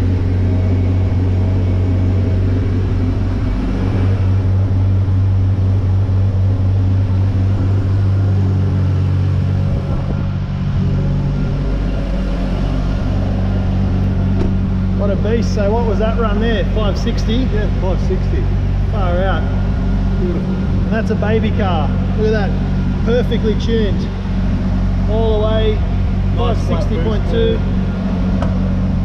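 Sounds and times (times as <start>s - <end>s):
low mechanical drone: 0.0s - 29.0s.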